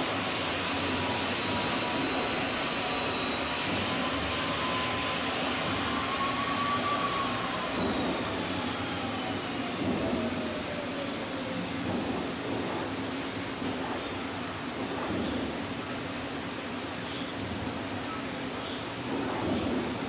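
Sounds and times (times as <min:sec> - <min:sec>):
faint thin whine: 0:00.0 - 0:20.0
videotape hiss and hum: 0:00.0 - 0:20.0.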